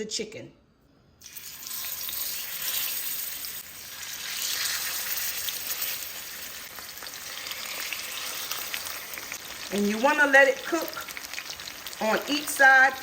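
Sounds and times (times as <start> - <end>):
chicken sizzling in a skillet: 1.2 - 13.0.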